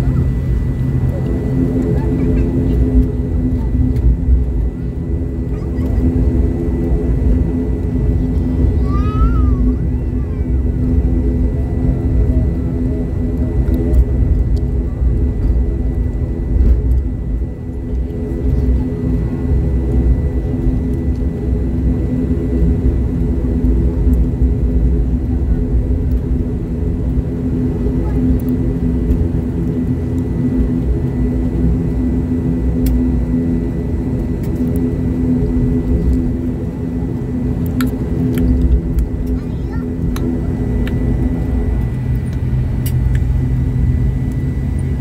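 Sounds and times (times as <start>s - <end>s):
turboprop engines running in cabin: 0.0s - 45.0s.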